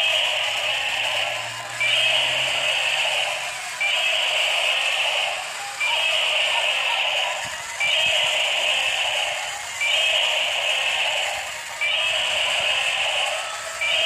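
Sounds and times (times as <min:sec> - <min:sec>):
tinny electronic toy sound effect: 0:00.0 - 0:14.0.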